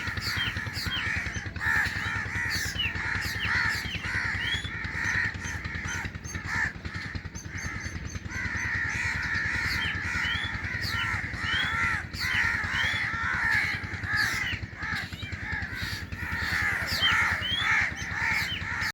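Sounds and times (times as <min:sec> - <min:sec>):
bird chicks chattering calls: 0:00.0 - 0:18.9
steady low rumble: 0:00.0 - 0:18.9.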